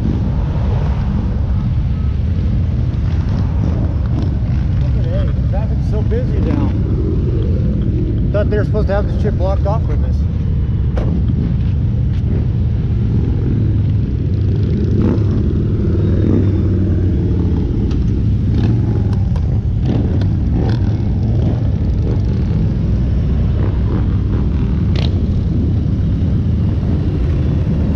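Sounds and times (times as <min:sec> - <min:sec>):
motorcycles riding past: 0:00.0 - 0:27.9
vehicle engines rumbling: 0:00.0 - 0:27.9.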